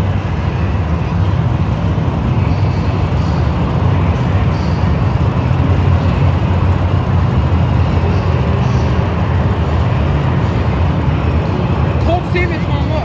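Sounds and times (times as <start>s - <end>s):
truck engine deep rumble: 0.0s - 13.0s.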